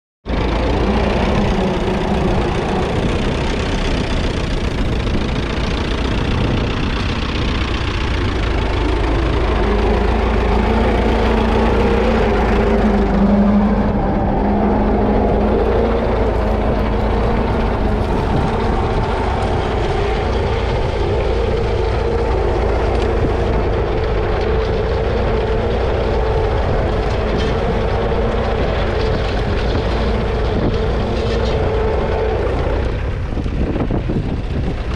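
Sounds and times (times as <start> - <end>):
tractor engine running under load: 0.3 - 34.9.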